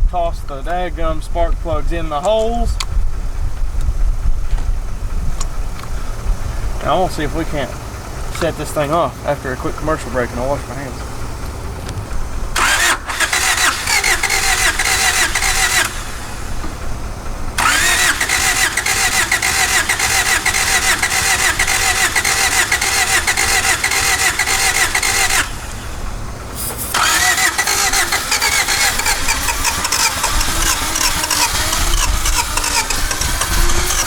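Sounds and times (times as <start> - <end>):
starter motor cranking engine: 0.0 - 34.0.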